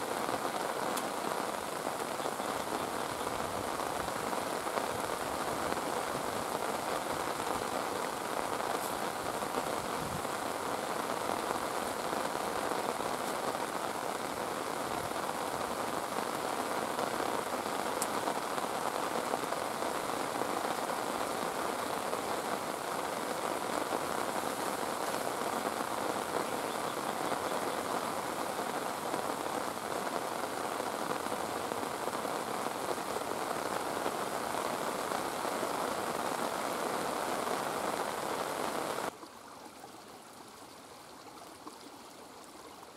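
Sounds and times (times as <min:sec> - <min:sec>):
heavy rain falling: 0:00.0 - 0:39.2.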